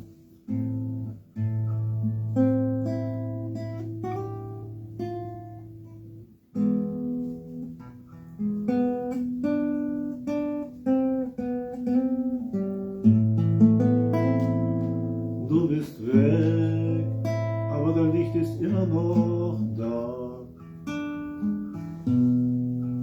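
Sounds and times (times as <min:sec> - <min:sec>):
acoustic guitar picking: 0:00.0 - 0:23.0.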